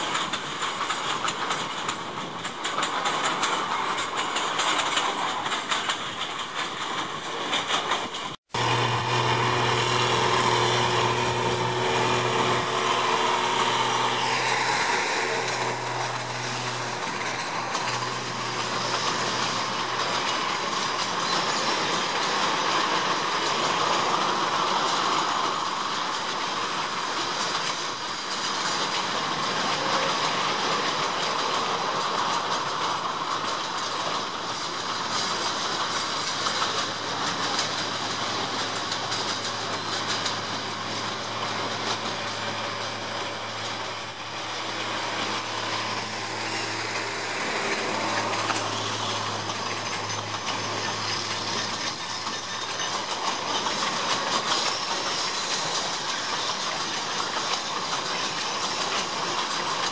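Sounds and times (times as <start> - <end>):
diesel locomotive engine drone: 0.0 - 59.9
wheels clicking over rail joints: 0.0 - 59.9.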